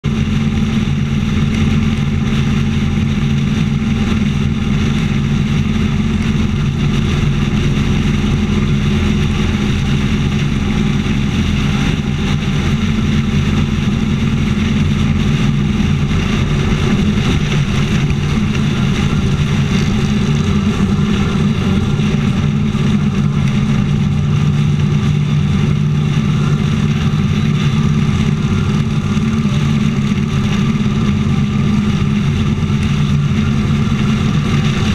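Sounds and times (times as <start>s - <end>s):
motorcycle engine cruising: 0.0s - 34.9s
road noise: 0.0s - 34.9s
wind noise: 0.0s - 34.9s.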